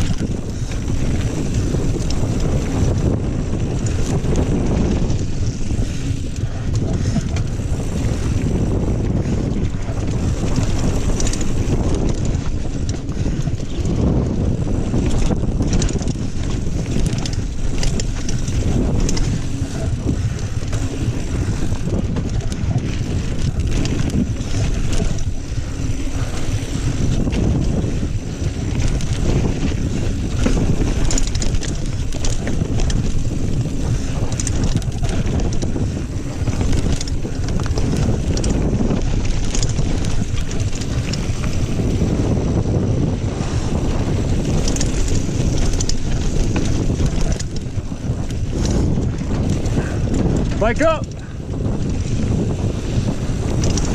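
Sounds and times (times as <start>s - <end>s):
bike clattering and rattling: 0.0s - 53.9s
bike tyres running on dirt: 0.0s - 53.9s
wind rushing over microphone: 0.0s - 53.9s.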